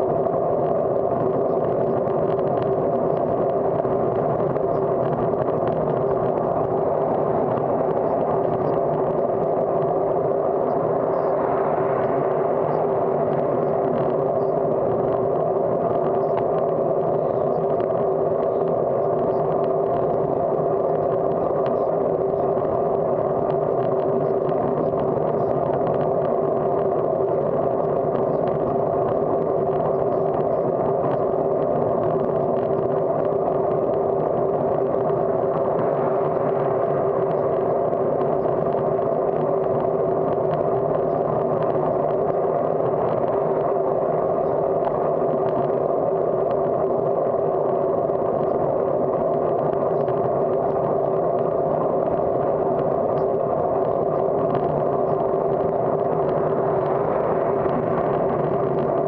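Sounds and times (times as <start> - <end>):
bicycle road and wind noise: 0.0 - 59.0
faint steady hum: 0.0 - 59.0
faint ticks: 7.4 - 59.0.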